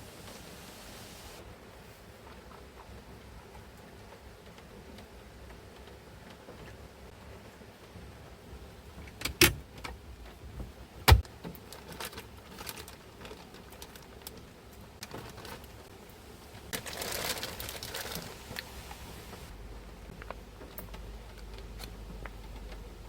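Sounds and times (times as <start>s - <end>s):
rustling handling noise: 0.0s - 23.0s.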